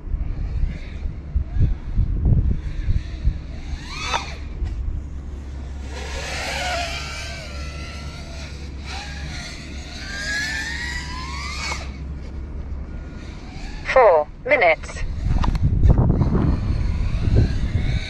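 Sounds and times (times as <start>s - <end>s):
drone motors whining: 0.0s - 18.0s
steady low hum: 0.0s - 18.0s.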